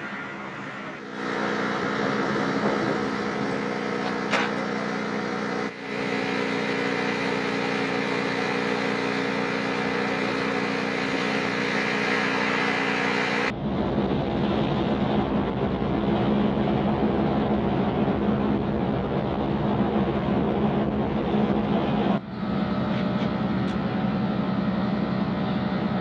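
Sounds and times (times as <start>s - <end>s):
engine droning hum: 0.0s - 26.0s.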